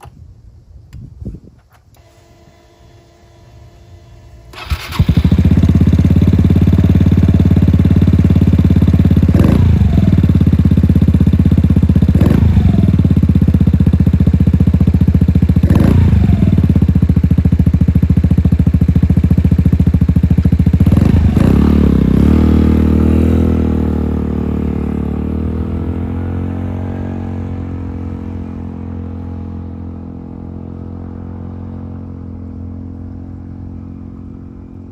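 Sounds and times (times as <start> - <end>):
scooter engine running: 1.9 - 34.9.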